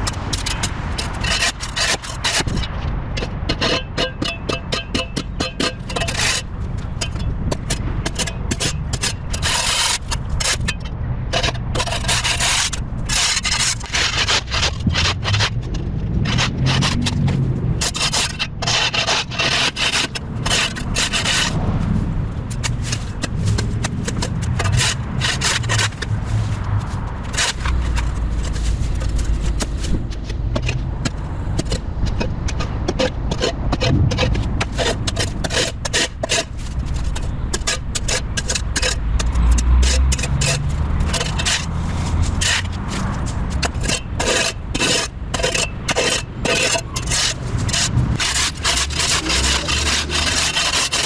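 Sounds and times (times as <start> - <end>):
spade scraping concrete: 0.0 - 51.0.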